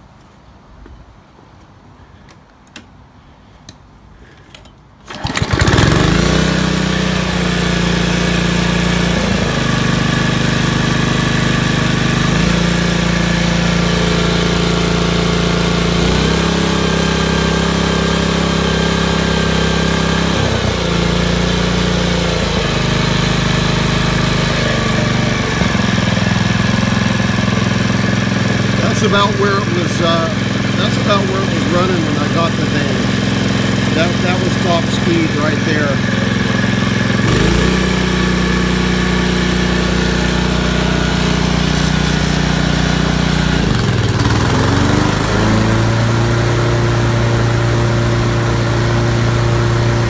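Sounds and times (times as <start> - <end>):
lawnmower engine running: 5.0 - 50.0.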